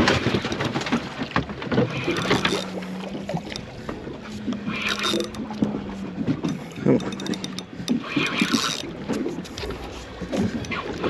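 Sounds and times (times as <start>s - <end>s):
clicks and knocks of gear: 0.0s - 11.0s
outboard motor idling: 0.0s - 11.0s
water noise: 0.0s - 11.0s
wind: 0.0s - 11.0s.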